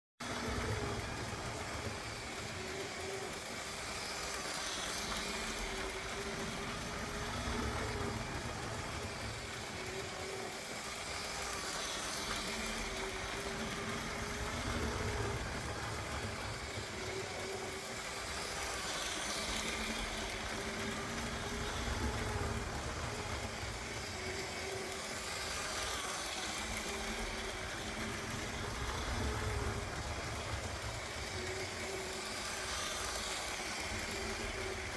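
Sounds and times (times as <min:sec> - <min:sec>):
toy electric train motor hum: 0:00.2 - 0:34.9.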